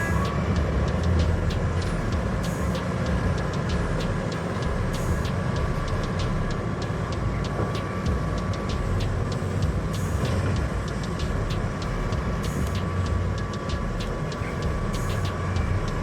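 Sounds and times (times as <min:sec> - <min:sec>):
heavy machinery diesel rumble: 0:00.0 - 0:16.0.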